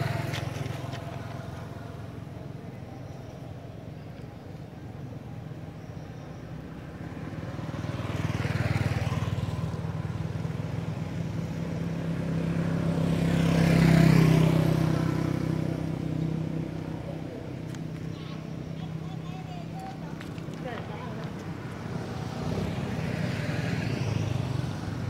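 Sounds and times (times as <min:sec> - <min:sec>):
vehicle engines passing by: 0:00.0 - 0:25.0.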